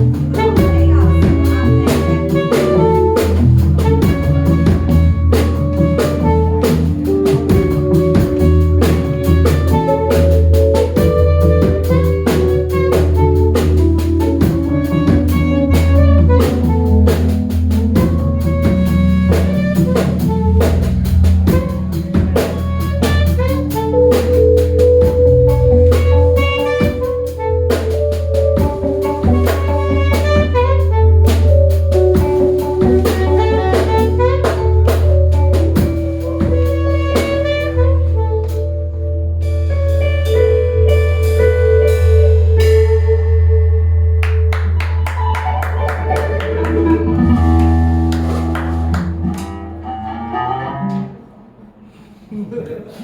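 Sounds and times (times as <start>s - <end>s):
drum kit hits: 0.0s - 38.8s, 45.7s - 49.8s
jazz band playing: 0.0s - 51.9s.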